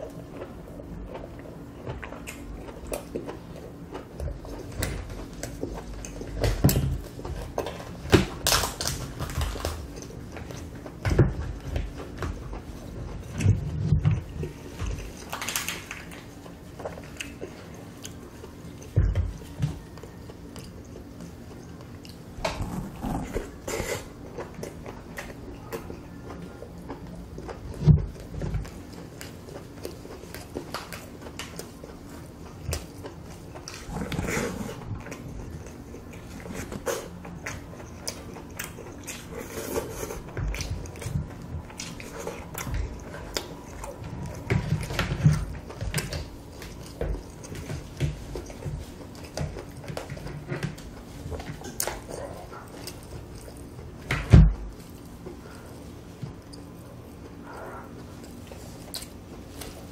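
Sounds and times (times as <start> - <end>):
chewing and biting: 0.0 - 59.9.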